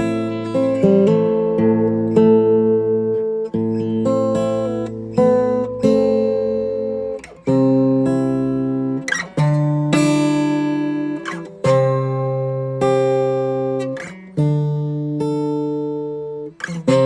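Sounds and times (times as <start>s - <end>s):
guitar strumming slow chords: 0.0s - 17.0s.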